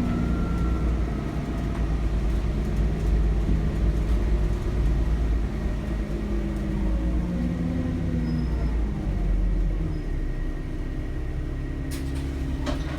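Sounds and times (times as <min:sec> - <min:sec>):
bus diesel engine rumble: 0:00.0 - 0:12.9.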